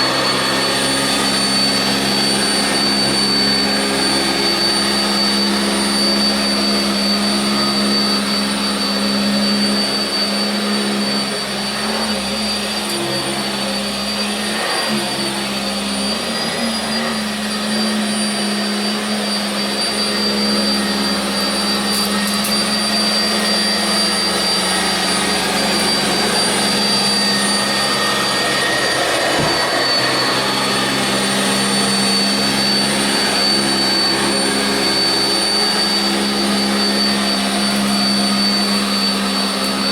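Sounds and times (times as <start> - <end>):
upright vacuum cleaner on carpet: 0.0 - 39.9.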